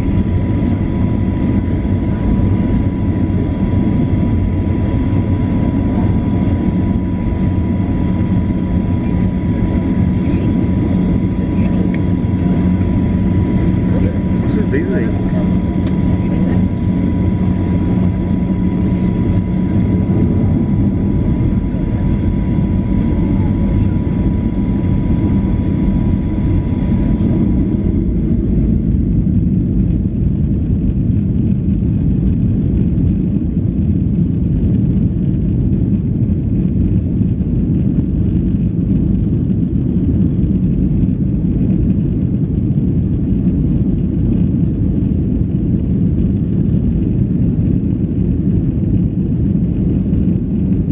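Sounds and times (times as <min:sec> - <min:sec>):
vehicle rumbling: 0:00.0 - 0:50.9.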